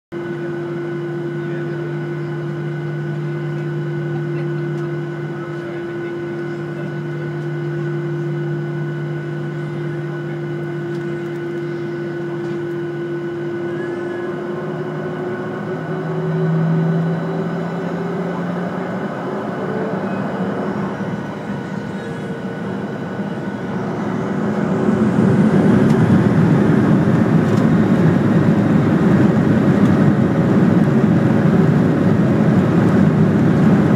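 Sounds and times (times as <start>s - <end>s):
jet engines humming with whine: 0.1s - 33.9s.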